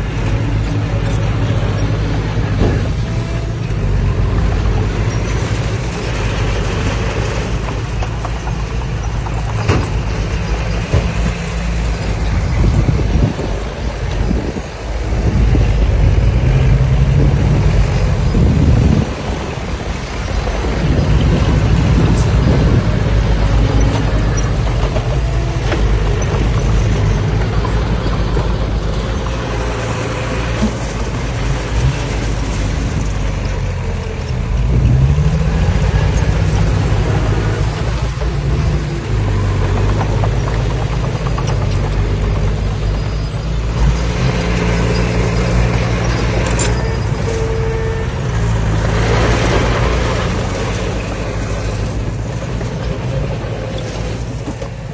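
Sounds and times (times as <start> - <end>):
heavy diesel engine under load: 0.0 - 54.9.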